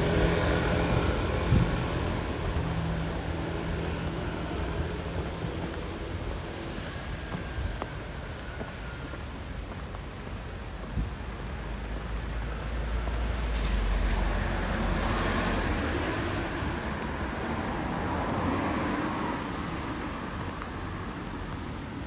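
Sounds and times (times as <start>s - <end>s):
vehicle passing on wet road: 0.0s - 22.0s.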